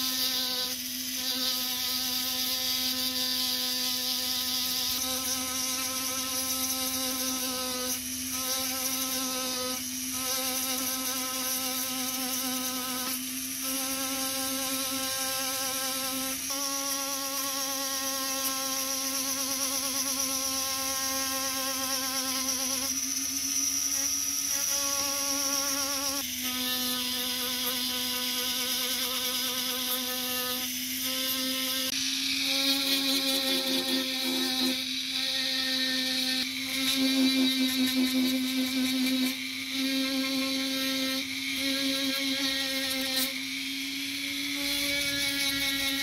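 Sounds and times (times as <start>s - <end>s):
rotary tool motor whine: 0.0s - 46.0s.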